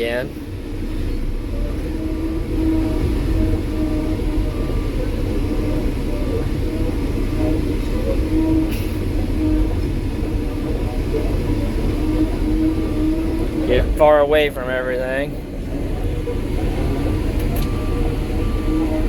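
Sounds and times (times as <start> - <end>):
excavator engine rumbling: 0.0 - 19.0.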